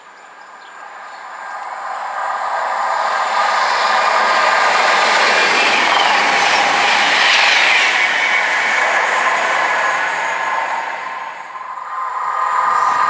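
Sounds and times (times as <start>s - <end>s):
diesel train passing at speed: 0.7s - 13.0s
falling whine: 1.5s - 13.0s.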